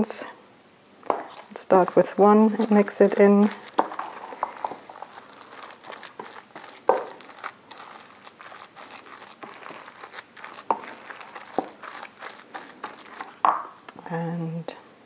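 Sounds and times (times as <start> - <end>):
spoon scraping and clicking in bowl: 1.1 - 13.4.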